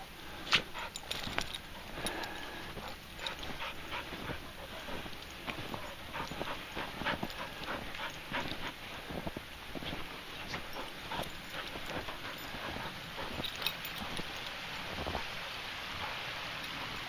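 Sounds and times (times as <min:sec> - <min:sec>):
dog panting: 0:00.3 - 0:17.0
footsteps crunching in snow: 0:00.3 - 0:17.0.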